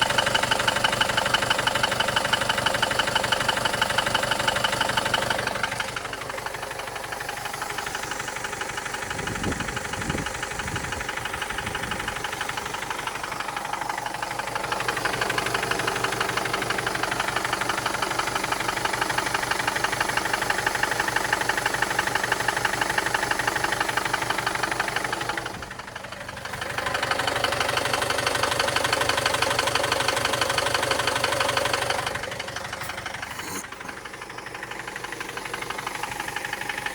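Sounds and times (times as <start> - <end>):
diesel engine running: 0.0 - 36.9
rapid even engine knocking: 0.0 - 36.9.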